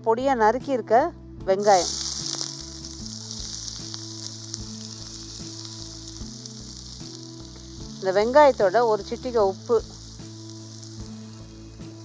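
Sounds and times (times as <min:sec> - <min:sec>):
onion sizzling in oil: 0:01.6 - 0:12.0.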